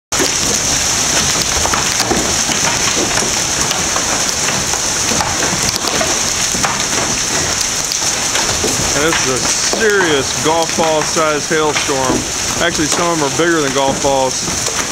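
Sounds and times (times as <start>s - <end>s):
hailstones clattering: 0.1s - 14.9s.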